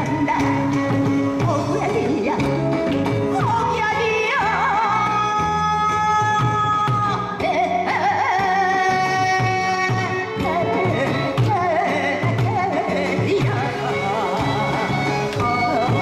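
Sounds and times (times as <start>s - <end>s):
amplified backing music: 0.0s - 16.0s
drums keeping a steady beat: 0.0s - 16.0s
woman singing into a microphone: 0.0s - 16.0s.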